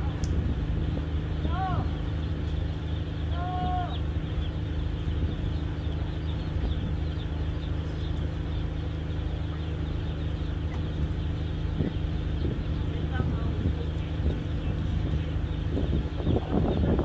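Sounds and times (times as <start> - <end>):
ferry engines humming: 0.0 - 17.0.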